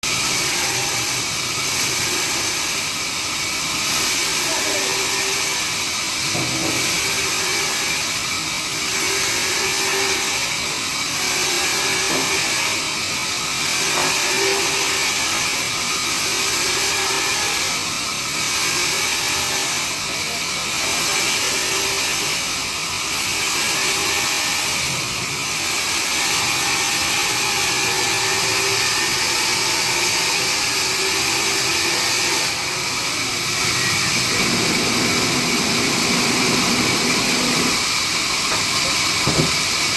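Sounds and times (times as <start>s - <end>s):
band saw cutting log: 3.8s - 39.9s.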